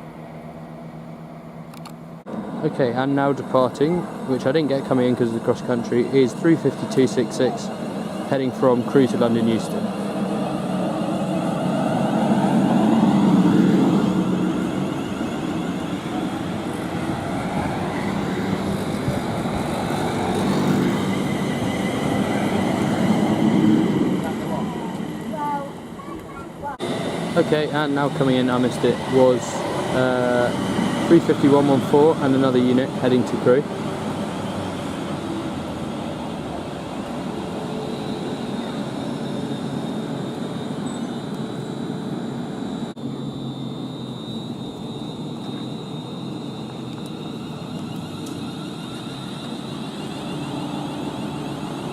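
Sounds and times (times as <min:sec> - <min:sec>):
thin high whine: 0:00.0 - 0:51.9
train wheels rumbling on rail: 0:01.8 - 0:42.8, 0:44.8 - 0:51.9.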